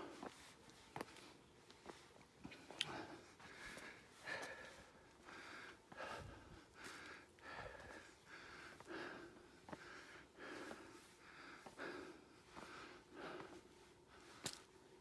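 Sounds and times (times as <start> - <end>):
person breathing hard: 2.5 - 14.8.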